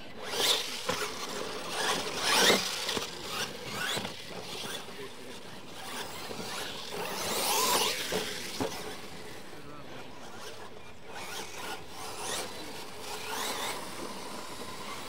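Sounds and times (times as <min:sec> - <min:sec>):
toy car electric motors whining: 0:00.0 - 0:15.0.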